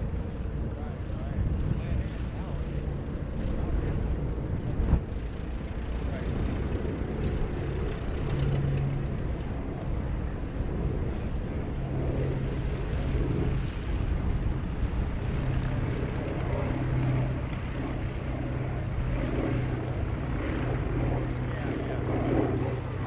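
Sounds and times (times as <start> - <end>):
propeller plane engines droning: 0.0 - 23.0.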